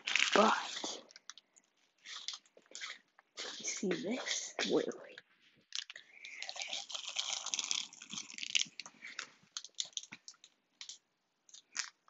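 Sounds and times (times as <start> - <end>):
rustling and crackling handling noise: 0.0 - 12.0.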